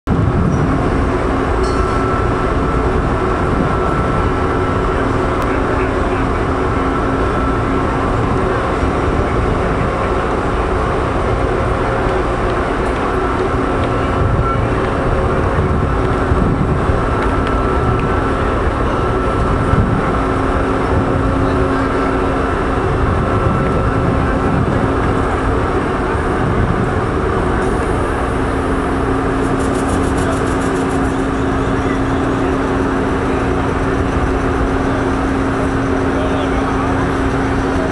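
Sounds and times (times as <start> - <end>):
dense rumbling: 0.1 - 37.9
locomotive mechanical hum: 0.1 - 37.9.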